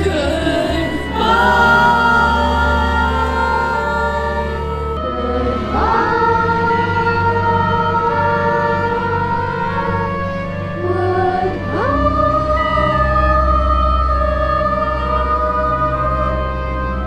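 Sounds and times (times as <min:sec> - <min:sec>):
group of voices singing: 0:00.0 - 0:17.0
musical accompaniment: 0:00.0 - 0:17.0.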